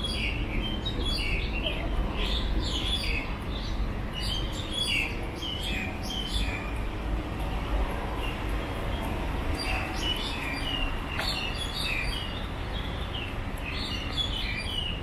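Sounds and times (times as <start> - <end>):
birds chirping and calling: 0.0 - 6.9, 8.2 - 15.0
low street rumble: 0.0 - 15.0.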